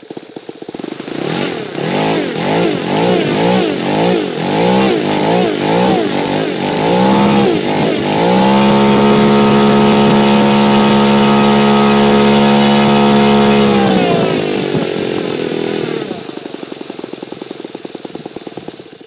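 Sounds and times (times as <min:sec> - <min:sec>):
model aircraft engine running: 0:00.0 - 0:19.0.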